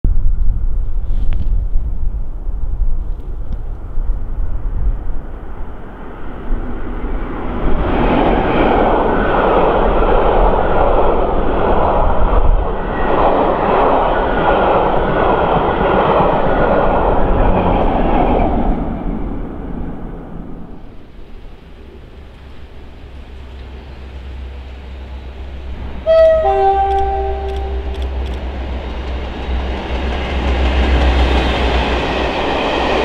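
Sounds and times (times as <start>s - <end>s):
diesel locomotive engine: 0.2s - 33.0s.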